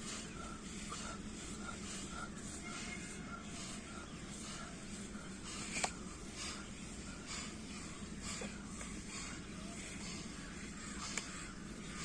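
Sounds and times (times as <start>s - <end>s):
people breathing rhythmically: 0.0s - 12.0s.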